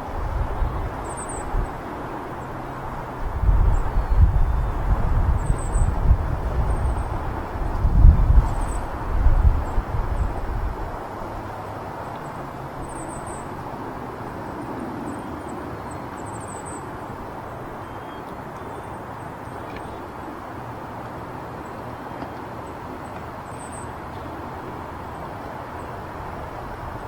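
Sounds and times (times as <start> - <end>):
highway traffic rushing: 0.0 - 27.0.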